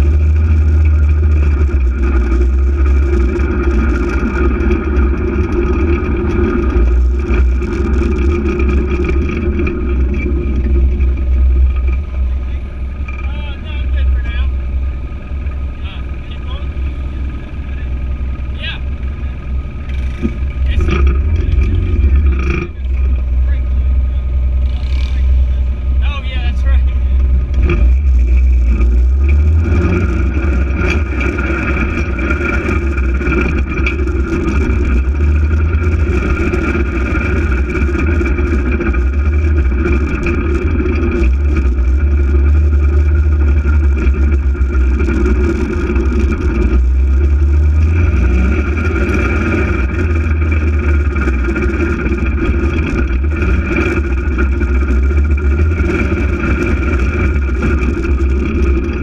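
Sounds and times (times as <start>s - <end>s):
engine running with low rumble: 0.0s - 59.0s.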